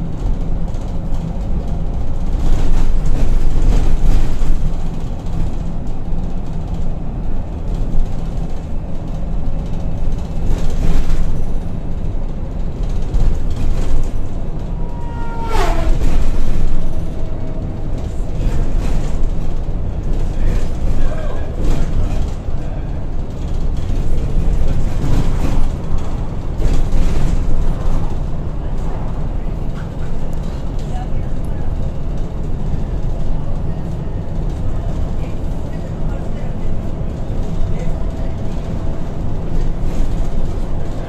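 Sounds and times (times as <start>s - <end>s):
bus diesel engine rumble: 0.0s - 41.0s
road and body noise: 0.0s - 41.0s.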